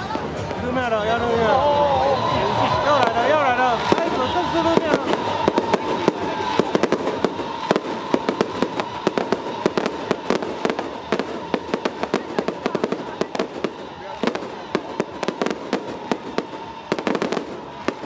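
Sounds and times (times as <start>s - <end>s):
firecrackers banging: 0.0s - 18.0s.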